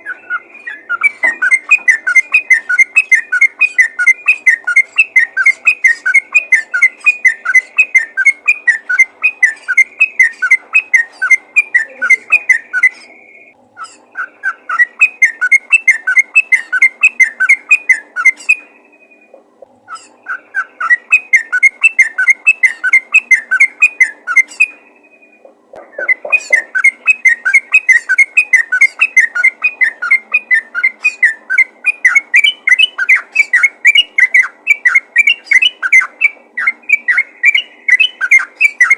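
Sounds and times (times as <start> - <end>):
bird singing whistled notes: 0.0 - 25.4, 26.0 - 38.9.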